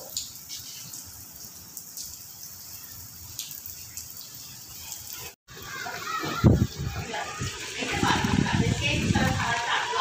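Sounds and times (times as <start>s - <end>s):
heavy rain on concrete: 0.0s - 10.0s
splashes and drips: 0.0s - 10.0s.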